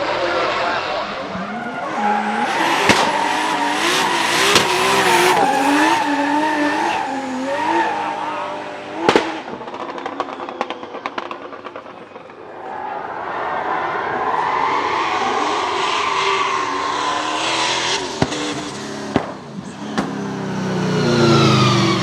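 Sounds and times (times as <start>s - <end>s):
tyre squeal and skidding: 0.0s - 8.6s, 9.7s - 19.0s, 21.0s - 22.0s
car engine revving hard: 0.0s - 10.0s, 14.4s - 22.0s.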